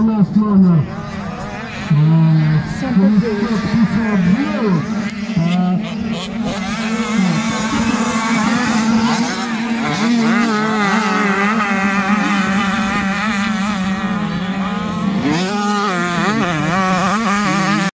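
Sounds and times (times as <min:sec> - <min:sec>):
motocross bikes revving: 0:00.0 - 0:17.9.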